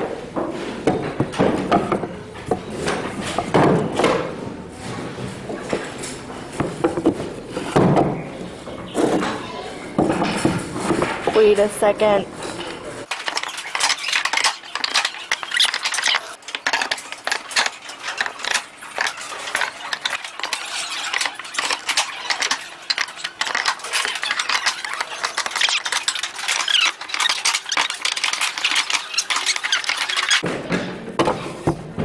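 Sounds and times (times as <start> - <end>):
wooden blocks knocking and clattering: 0.0 - 4.4, 5.1 - 11.7, 13.0 - 32.0.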